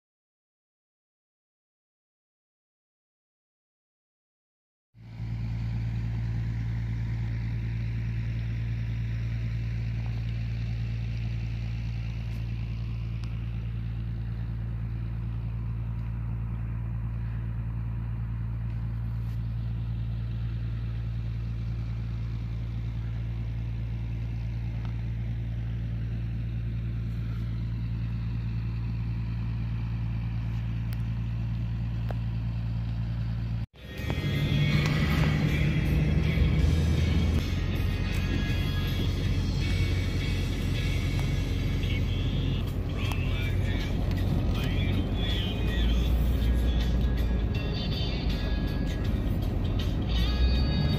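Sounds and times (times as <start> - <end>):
engine humming steadily: 5.0 - 50.9.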